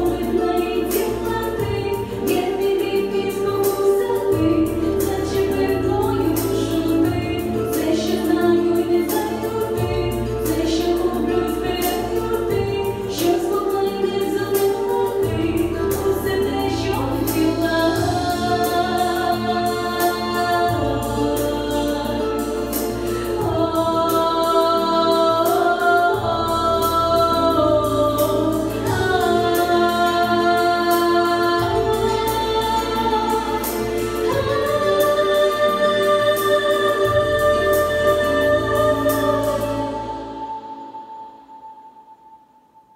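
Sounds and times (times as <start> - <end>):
instrumental backing with beat and bass: 0.0 - 41.0
woman singing into microphone: 0.0 - 41.3.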